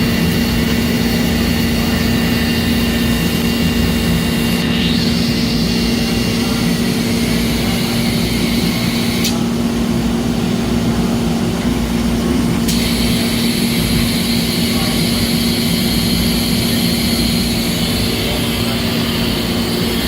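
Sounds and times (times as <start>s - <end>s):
high machine whine: 0.0s - 20.0s
lathe machine hum: 0.0s - 20.0s.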